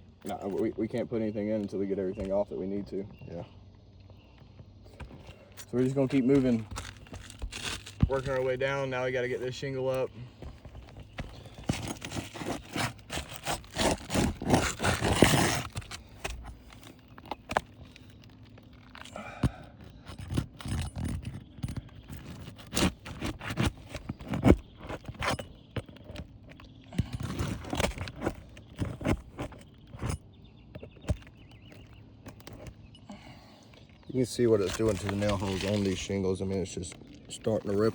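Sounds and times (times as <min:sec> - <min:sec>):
prying tool scraping shingles: 0:04.9 - 0:33.3, 0:34.0 - 0:37.9.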